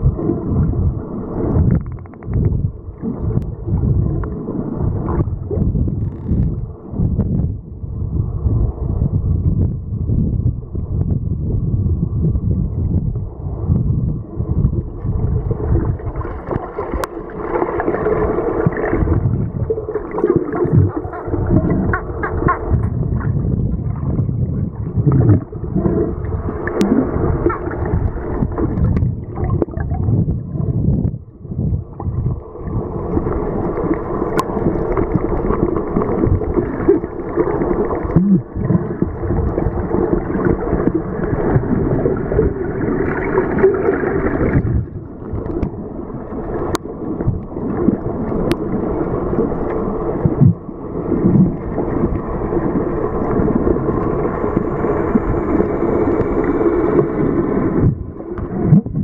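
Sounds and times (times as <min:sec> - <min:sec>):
muffled underwater gurgling: 0:00.0 - 0:59.0.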